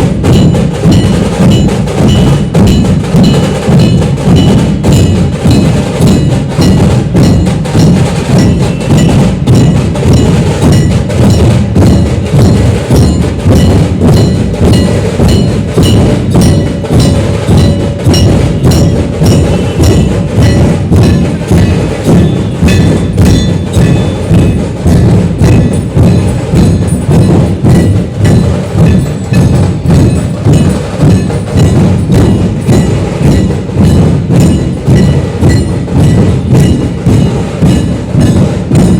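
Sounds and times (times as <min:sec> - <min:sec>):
drums played fast: 0:00.0 - 0:38.9.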